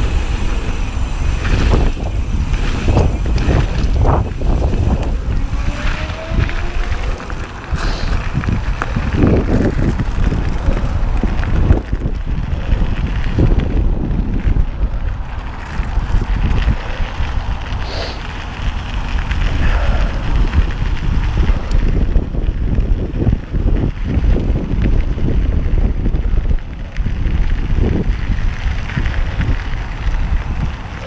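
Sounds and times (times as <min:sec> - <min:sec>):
bike rattling: 0:00.0 - 0:31.0
tyres crunching on gravel: 0:00.0 - 0:31.0
wind buffeting microphone: 0:00.0 - 0:31.0.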